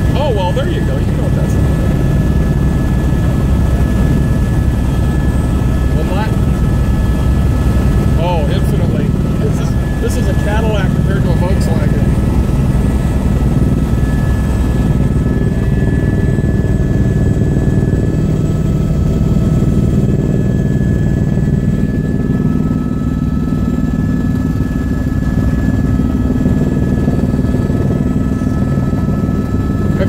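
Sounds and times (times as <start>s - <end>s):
helicopter rotor and engine drone: 0.0s - 30.0s
high whine tones: 0.0s - 30.0s.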